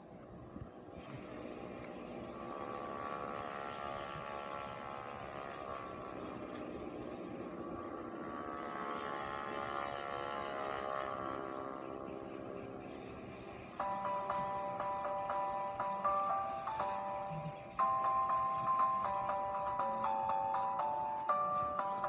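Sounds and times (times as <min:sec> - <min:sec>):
cartoon soundtrack through tv speakers: 0:01.1 - 0:22.0.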